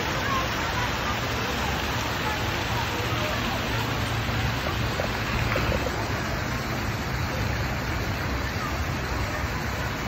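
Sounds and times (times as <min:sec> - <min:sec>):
fountain spraying into water: 0:00.0 - 0:10.0.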